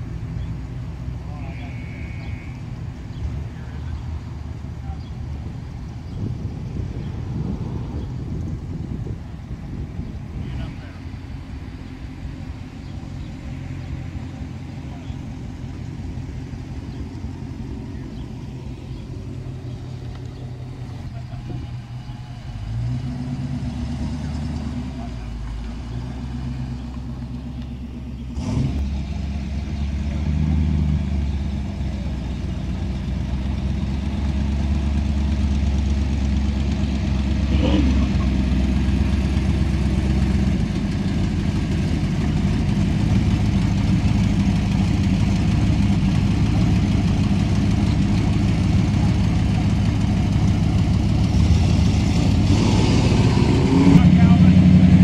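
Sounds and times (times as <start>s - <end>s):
car engines idling: 0.0s - 55.0s.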